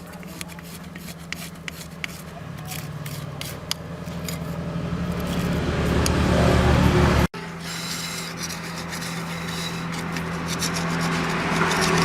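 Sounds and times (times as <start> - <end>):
engine humming: 1.6 - 12.0.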